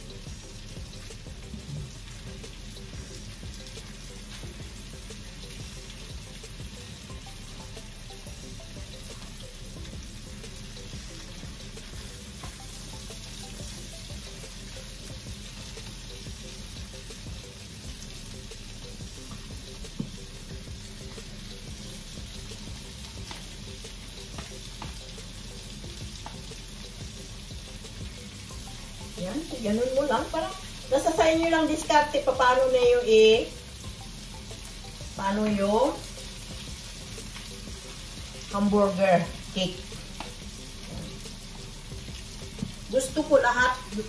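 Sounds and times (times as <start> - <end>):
meat sizzling in a frying pan: 0.0 - 44.0.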